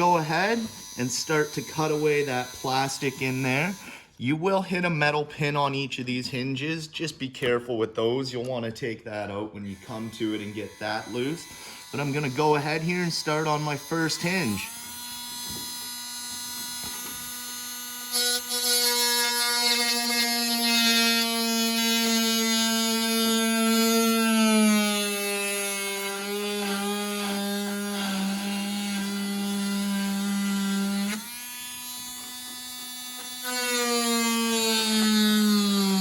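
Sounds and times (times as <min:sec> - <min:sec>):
rotary tool whining grinding plastic: 0:00.0 - 0:03.9, 0:09.7 - 0:36.0.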